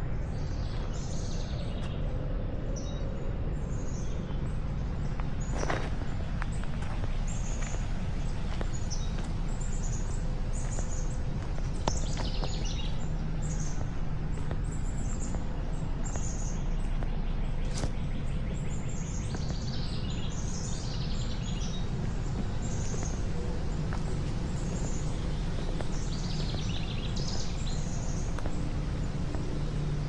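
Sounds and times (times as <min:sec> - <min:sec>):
songbirds chirping: 0:00.0 - 0:30.0
steady low rumble: 0:00.0 - 0:30.0.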